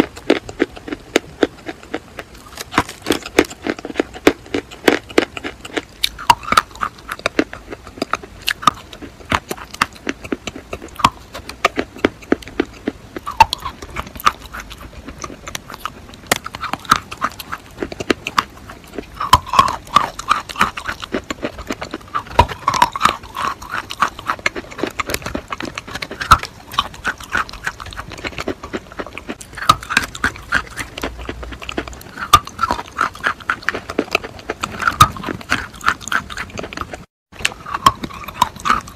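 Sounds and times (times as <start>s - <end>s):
chalk crunching between teeth: 0.0s - 38.9s
wet mouth sounds: 0.0s - 38.9s.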